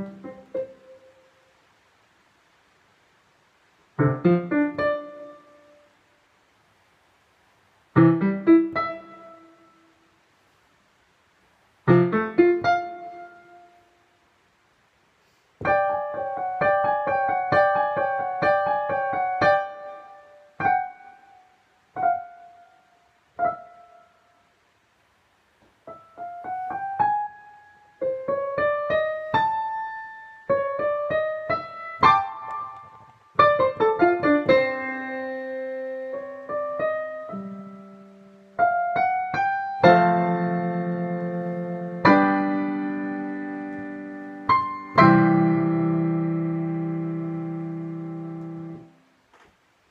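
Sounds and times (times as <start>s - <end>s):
digital piano solo piece: 0.0s - 1.5s, 3.9s - 6.0s, 7.9s - 10.0s, 11.8s - 14.0s, 15.6s - 24.6s, 25.7s - 49.1s.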